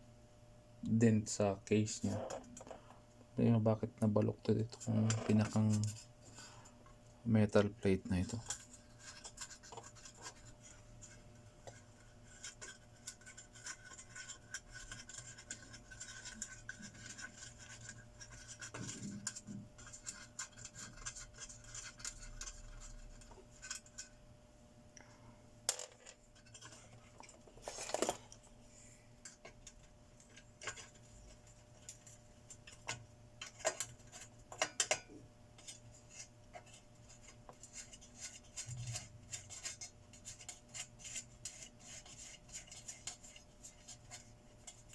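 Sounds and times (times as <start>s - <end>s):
faint metal scraping: 1.8s - 3.0s, 4.2s - 24.2s, 25.8s - 44.9s.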